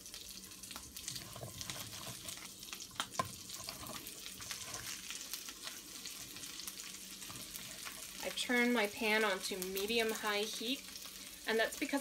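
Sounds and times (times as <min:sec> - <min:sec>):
food sizzling in a skillet: 0:00.0 - 0:12.0.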